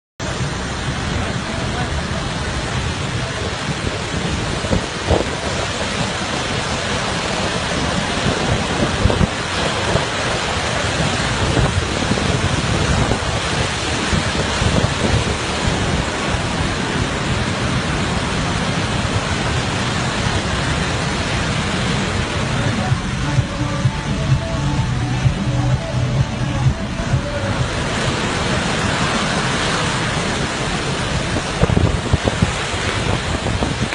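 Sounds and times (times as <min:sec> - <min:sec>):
waterfall pouring on a vehicle: 0:00.2 - 0:33.9.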